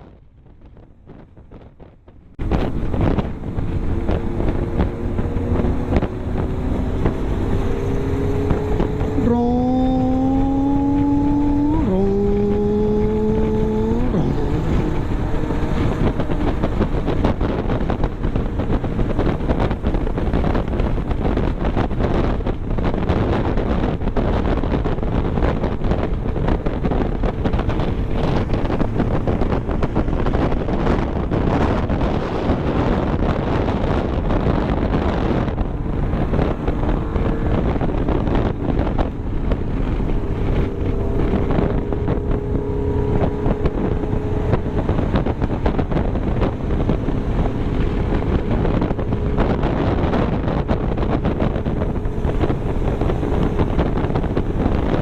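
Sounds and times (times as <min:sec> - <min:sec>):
road noise: 0:00.0 - 0:55.0
vehicle engine: 0:00.0 - 0:55.0
wind rushing over microphone: 0:00.0 - 0:55.0.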